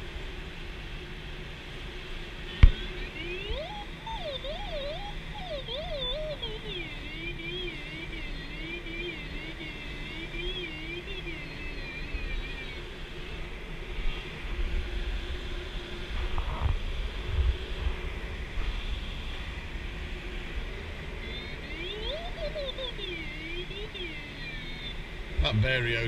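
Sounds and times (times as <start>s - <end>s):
variometer tone wavering: 2.0s - 26.0s.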